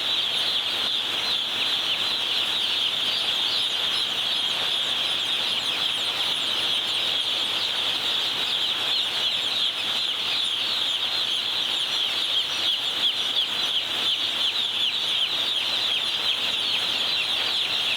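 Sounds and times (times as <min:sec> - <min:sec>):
chicks peeping: 0:00.0 - 0:17.9.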